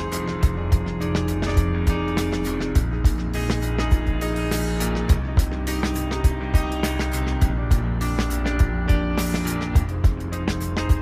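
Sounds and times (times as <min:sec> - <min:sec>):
sustained music chords: 0:00.0 - 0:11.0.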